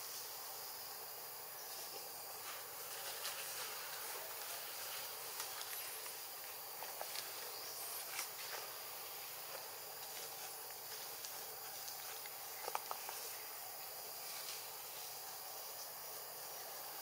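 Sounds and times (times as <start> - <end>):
high insect hum: 0.0 - 17.0.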